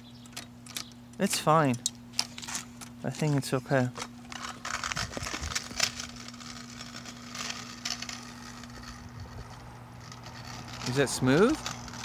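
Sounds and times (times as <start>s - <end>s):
scooter wheels rolling on asphalt: 2.1s - 12.0s.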